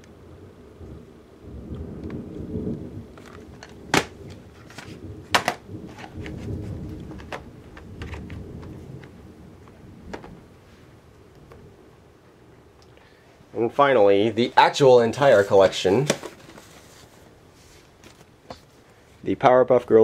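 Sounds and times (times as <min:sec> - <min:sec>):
thunder rumbling: 0:00.0 - 0:16.2
faint rain hiss: 0:00.0 - 0:20.0.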